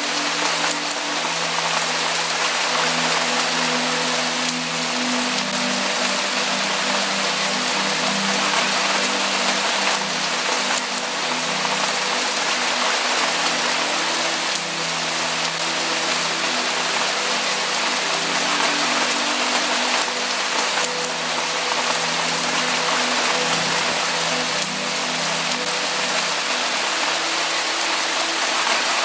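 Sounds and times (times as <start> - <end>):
soft background music: 0.0 - 29.0
steady rain falling: 0.0 - 29.0.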